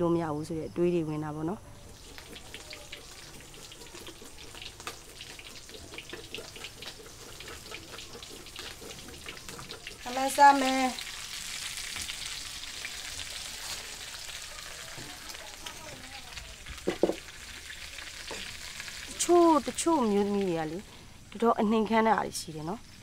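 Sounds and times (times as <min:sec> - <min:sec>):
vegetables sizzling in a wok: 0:01.3 - 0:23.0.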